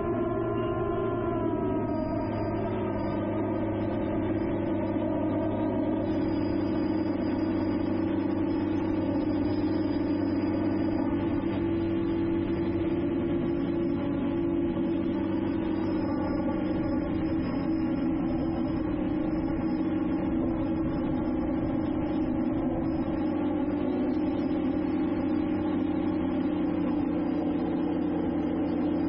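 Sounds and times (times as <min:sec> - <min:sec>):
drone motors humming: 0:00.0 - 0:29.0.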